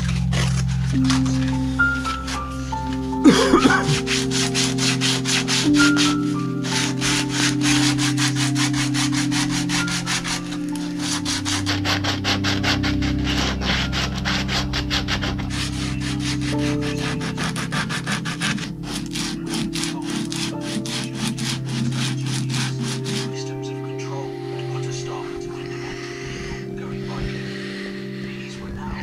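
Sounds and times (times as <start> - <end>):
sandpaper rubbing on wood: 0.0 - 27.6
background music with held notes: 0.0 - 29.0.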